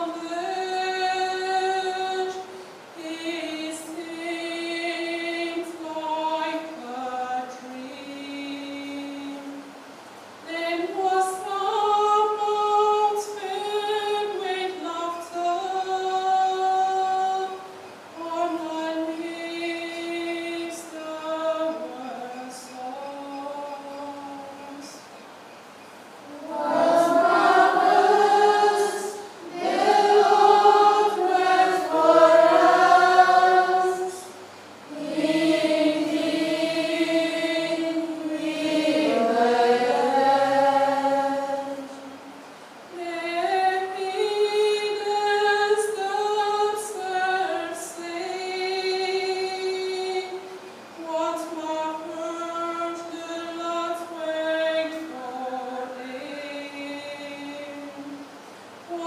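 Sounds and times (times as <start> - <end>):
woman singing chant unaccompanied: 0.0 - 25.2, 26.2 - 59.0.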